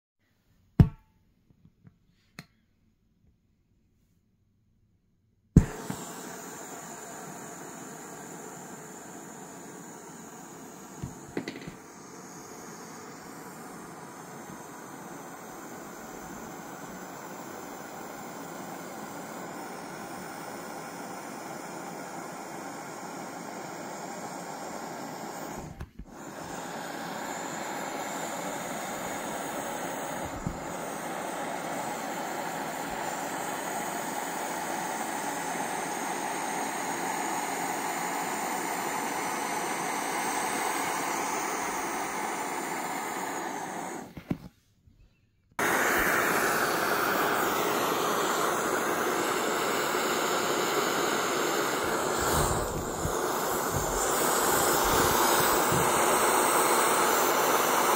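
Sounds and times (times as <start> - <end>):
air hissing out of a ball valve: 5.6 - 44.3, 45.6 - 57.9.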